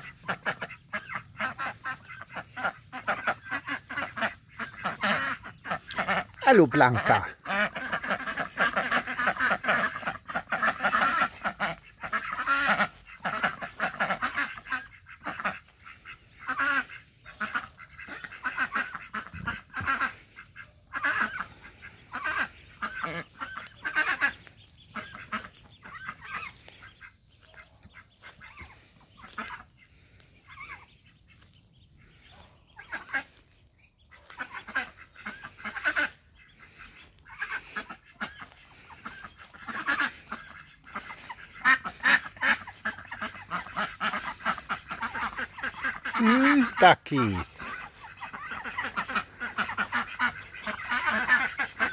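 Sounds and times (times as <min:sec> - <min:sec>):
ducks quacking: 0:00.0 - 0:51.9.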